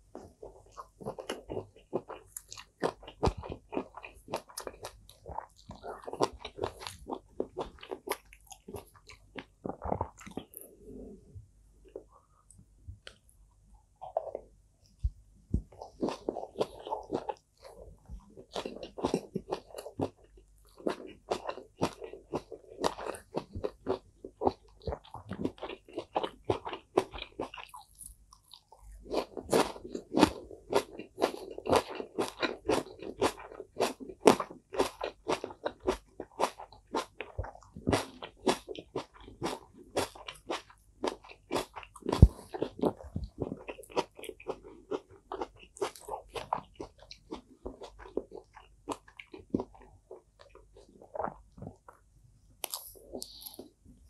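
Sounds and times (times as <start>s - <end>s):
chewing with wet mouth sounds: 0.1s - 11.2s, 14.0s - 53.8s.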